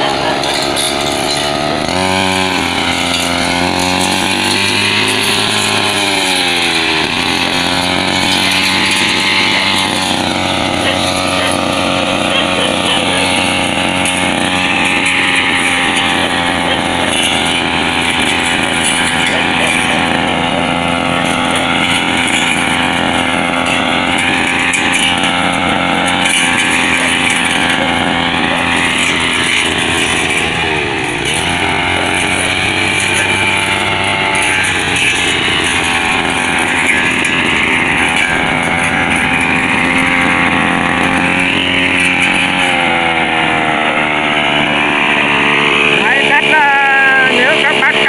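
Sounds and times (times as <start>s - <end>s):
blade cutting through weeds: 0.0s - 48.0s
brushcutter engine running: 0.0s - 48.0s.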